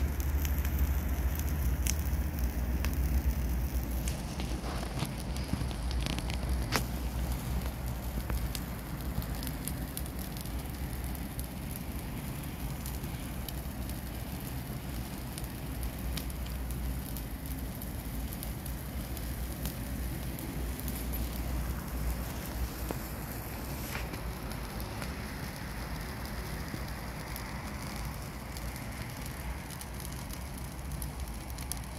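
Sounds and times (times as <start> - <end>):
fire crackling and popping: 0.0 - 31.9
low fire rumble: 0.0 - 31.9.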